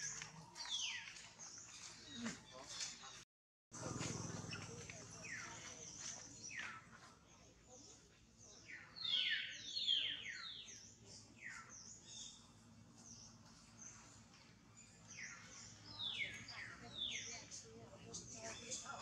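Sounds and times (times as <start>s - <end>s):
birds chirping: 0.0s - 3.2s, 3.8s - 19.0s.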